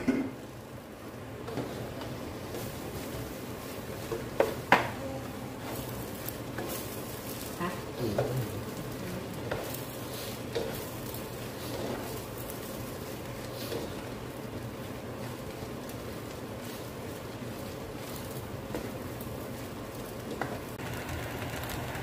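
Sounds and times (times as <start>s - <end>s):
faint sizzle: 0.0s - 22.0s
wooden spatula stirring in pan: 0.3s - 22.0s.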